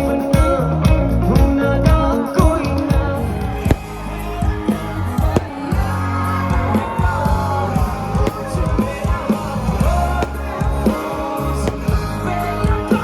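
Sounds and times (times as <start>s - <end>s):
person singing: 0.0s - 13.0s
rock band playing: 0.0s - 13.0s.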